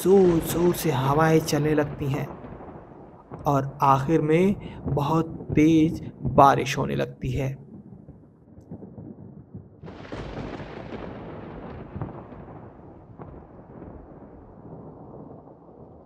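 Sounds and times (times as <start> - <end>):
falling rain: 0.0 - 16.0
thunder rumbling: 0.0 - 16.0.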